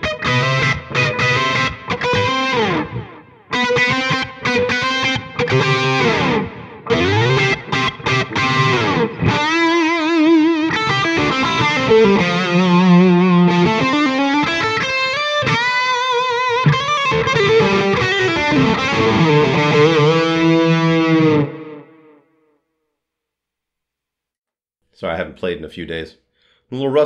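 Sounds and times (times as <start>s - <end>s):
overdriven electric guitar lead: 0.0s - 22.2s.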